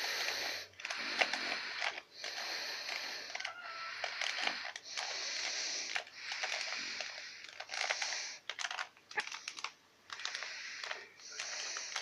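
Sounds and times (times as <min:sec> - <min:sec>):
puzzle cube clicking: 0:00.0 - 0:12.0.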